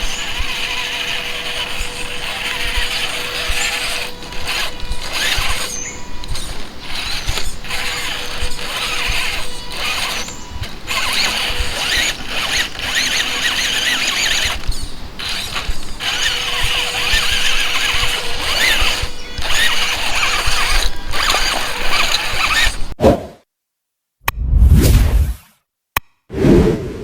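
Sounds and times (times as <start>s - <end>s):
toy car motor whining: 0.0s - 23.0s.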